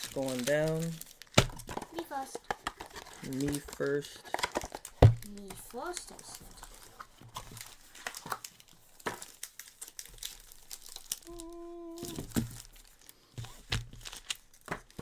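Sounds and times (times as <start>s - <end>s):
foil packs crinkling: 0.0s - 15.0s.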